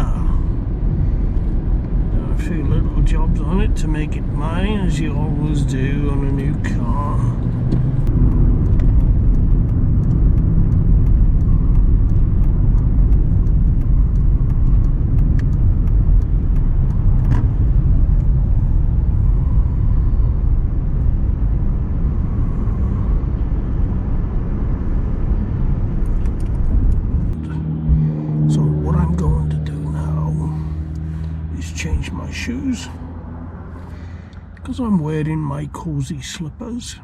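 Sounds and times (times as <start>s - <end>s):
engine and road rumble: 0.0s - 37.0s.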